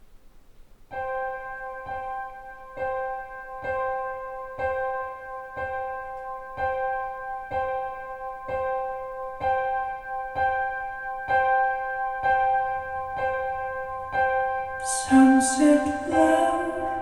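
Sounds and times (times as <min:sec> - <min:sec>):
electric piano chords over loudspeakers: 0:00.9 - 0:17.0.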